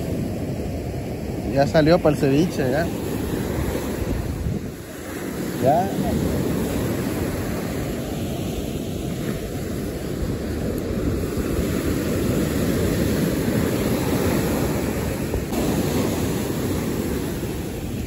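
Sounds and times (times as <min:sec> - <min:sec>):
surf breaking on beach: 0:00.0 - 0:18.0
wind buffeting microphone: 0:00.0 - 0:18.0.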